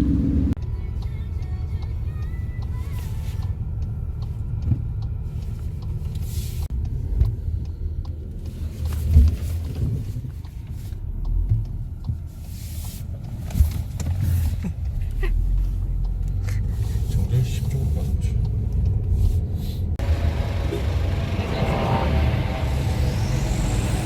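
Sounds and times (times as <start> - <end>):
low rumble: 0.0 - 12.4, 13.4 - 24.0.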